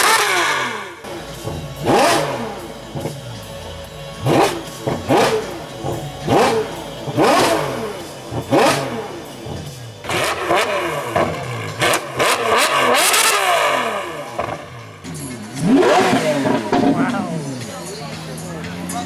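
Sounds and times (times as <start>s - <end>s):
car engine revving in blips: 0.0s - 19.0s.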